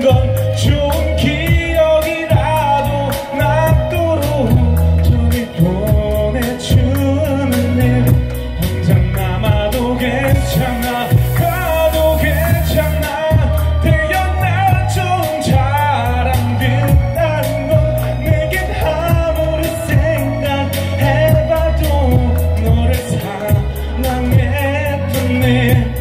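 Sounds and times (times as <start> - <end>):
backing track with heavy bass: 0.0 - 26.0
man singing into microphone: 0.0 - 26.0.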